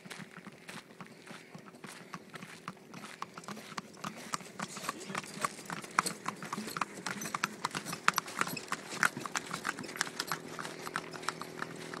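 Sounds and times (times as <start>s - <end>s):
horse hooves on asphalt: 0.0s - 12.0s.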